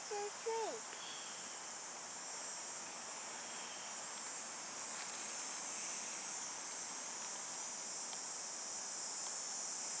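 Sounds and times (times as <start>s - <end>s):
insects buzzing: 0.0s - 10.0s.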